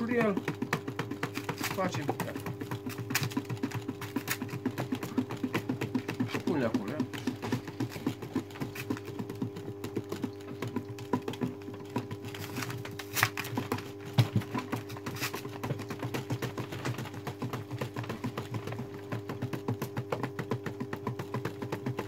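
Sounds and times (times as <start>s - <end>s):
electrical hum: 0.0s - 22.0s
wax sheets clicking and tapping: 0.0s - 22.0s.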